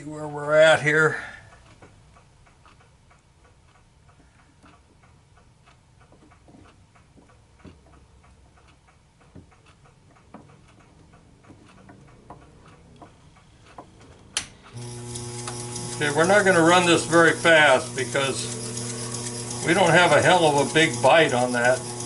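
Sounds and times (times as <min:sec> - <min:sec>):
faint ticking: 0:00.0 - 0:22.0.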